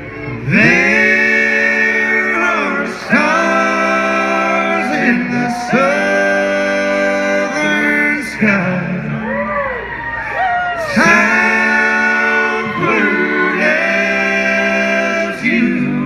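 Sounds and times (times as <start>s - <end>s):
men singing close harmony: 0.4s - 9.1s, 10.8s - 16.0s.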